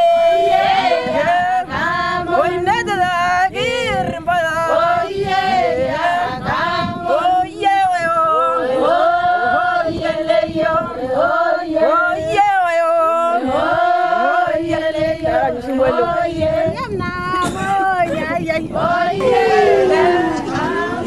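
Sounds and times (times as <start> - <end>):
men and women singing together: 0.0 - 21.0.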